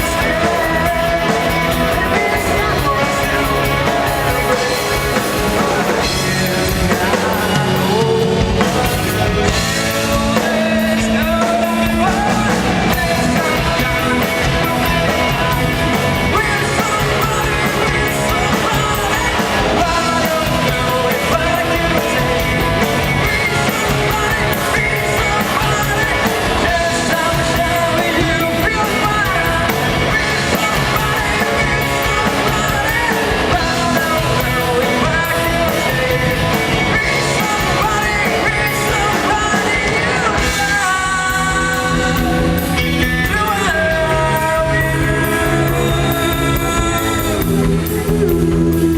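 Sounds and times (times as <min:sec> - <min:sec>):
drums: 0:00.0 - 0:48.9
electric guitars: 0:00.0 - 0:48.9
person singing: 0:00.0 - 0:48.9.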